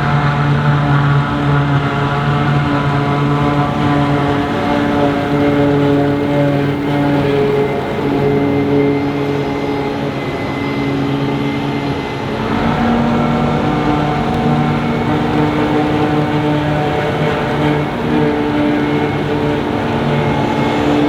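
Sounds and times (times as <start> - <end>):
diesel farm machinery running: 0.0 - 21.0.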